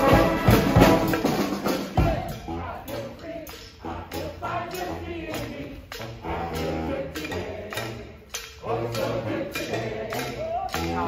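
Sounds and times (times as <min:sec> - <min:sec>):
brass band playing: 0:00.0 - 0:11.0
percussion beat: 0:00.0 - 0:11.0.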